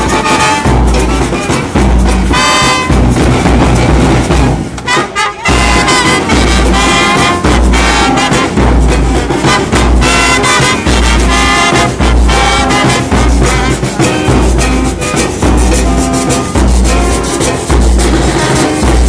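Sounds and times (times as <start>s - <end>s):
trumpets and trombones melody: 0.0s - 19.0s.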